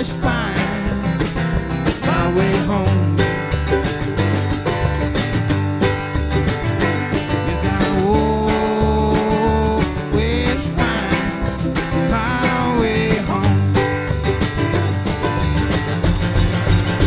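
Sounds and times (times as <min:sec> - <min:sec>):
drums keeping steady beat: 0:00.0 - 0:17.0.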